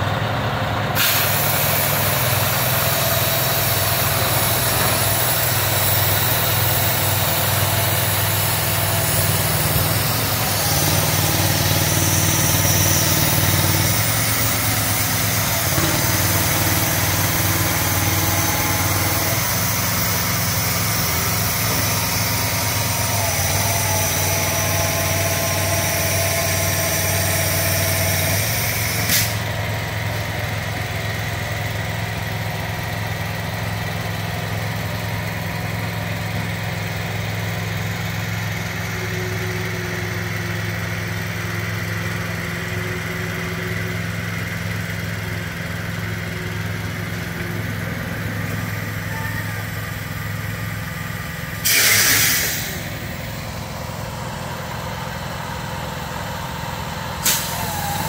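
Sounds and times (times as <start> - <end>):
diesel truck engine hum: 0.0 - 58.0.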